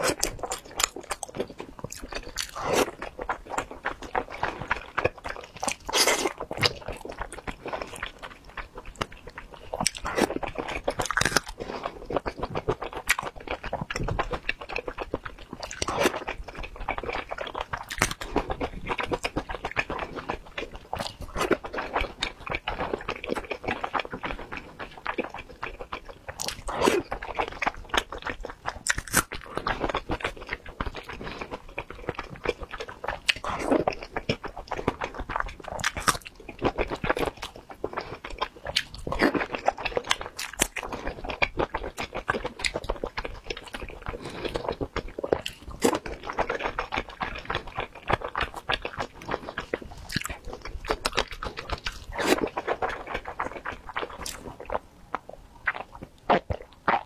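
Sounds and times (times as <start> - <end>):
chewing and biting dumplings: 0.0 - 57.0.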